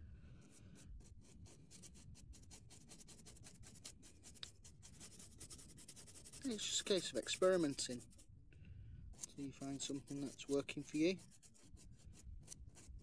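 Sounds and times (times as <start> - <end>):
paintbrush scrubbing on card: 0.4 - 8.3, 9.2 - 13.0.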